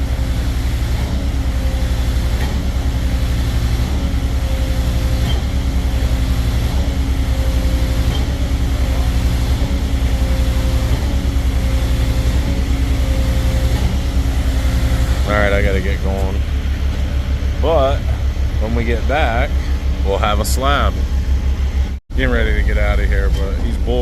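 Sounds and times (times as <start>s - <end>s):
concrete pump truck diesel drone: 0.0s - 24.0s
faint wavering whine: 0.0s - 24.0s.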